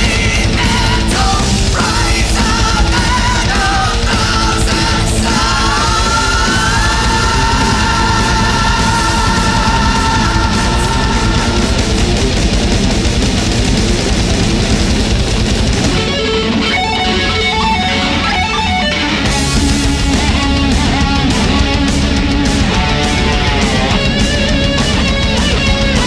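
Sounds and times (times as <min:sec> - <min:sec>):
heavy rock music: 0:00.0 - 0:26.0.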